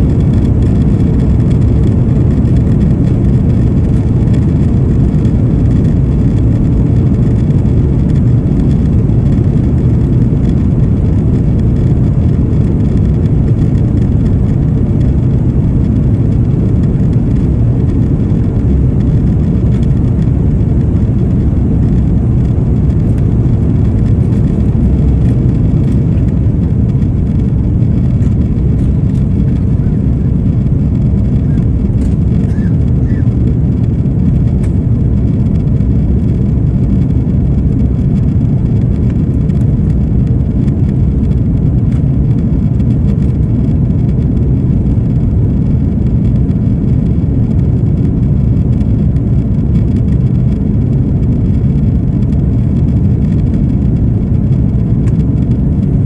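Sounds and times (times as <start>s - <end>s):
jet engine roar in cabin: 0.0s - 56.0s.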